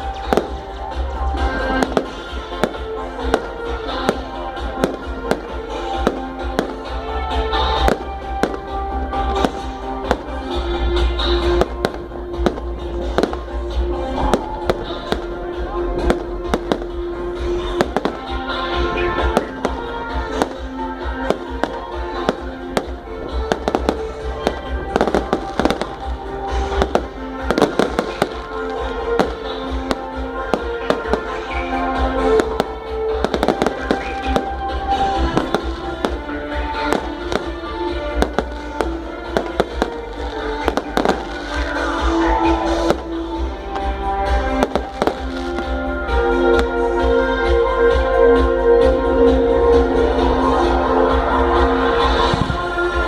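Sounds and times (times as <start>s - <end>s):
firecrackers banging and crackling: 0.0s - 47.6s
music with held notes: 0.0s - 53.0s.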